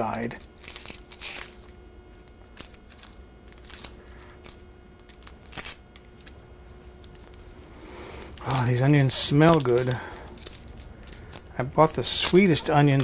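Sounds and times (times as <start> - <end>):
onion skin crackling and rustling: 0.0 - 7.6, 8.2 - 13.0.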